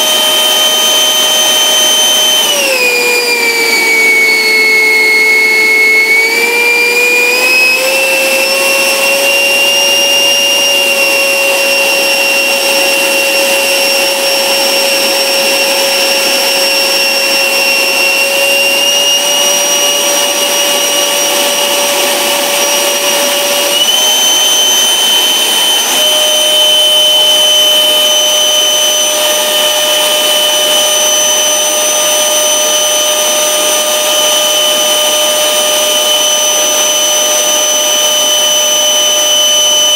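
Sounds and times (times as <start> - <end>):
electric ducted fan whining: 0.0 - 39.9.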